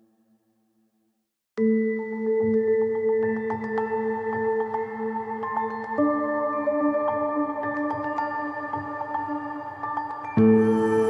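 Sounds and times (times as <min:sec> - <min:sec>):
soft ambient music: 0:01.6 - 0:11.0.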